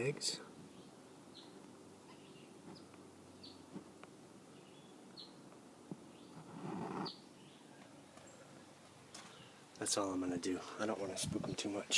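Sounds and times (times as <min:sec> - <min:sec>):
faint outdoor background: 0:00.0 - 0:11.9.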